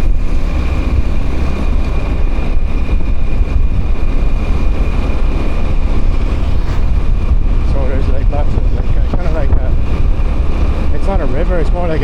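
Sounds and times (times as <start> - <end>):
motorbike running: 0.0 - 12.0
wind buffeting microphone: 0.0 - 12.0.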